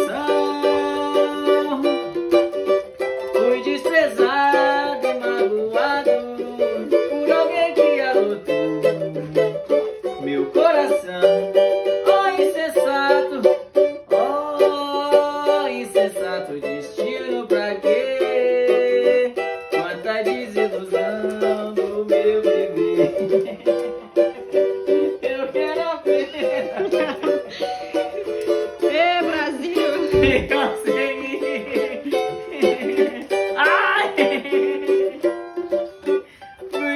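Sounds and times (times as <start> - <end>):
cavaquinho strumming: 0.0 - 36.9
person singing: 0.0 - 36.9.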